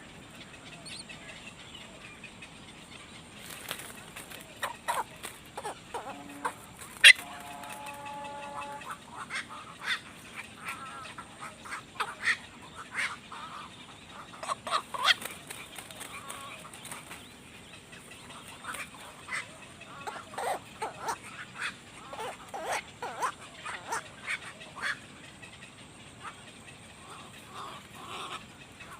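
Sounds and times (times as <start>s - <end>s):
drawn-out bird call: 0.0s - 28.9s.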